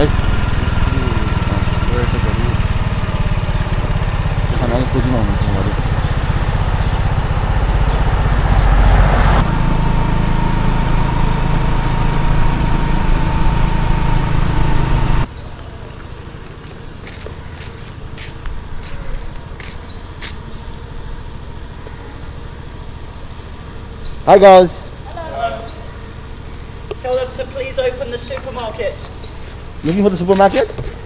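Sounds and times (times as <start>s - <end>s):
motorcycle engine running: 0.0s - 31.0s
street ambience: 0.0s - 31.0s.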